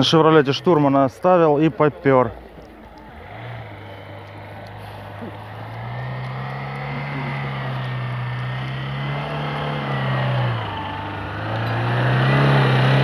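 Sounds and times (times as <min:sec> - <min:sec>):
car engine pulling uphill: 0:00.0 - 0:13.0.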